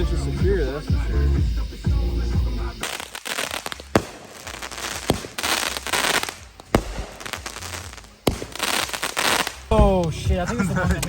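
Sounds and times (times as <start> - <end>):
music: 0.0 - 11.0
fireworks crackling and popping: 0.5 - 11.0.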